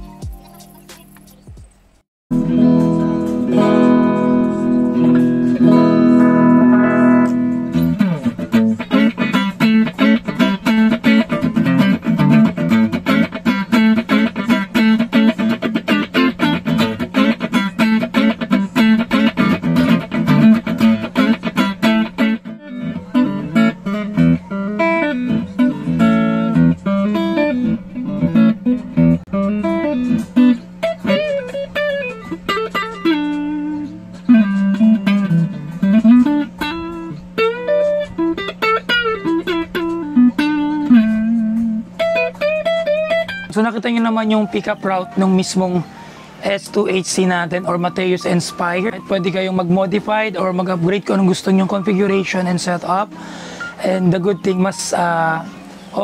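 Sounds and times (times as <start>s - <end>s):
electric guitar notes: 2.3s - 56.0s.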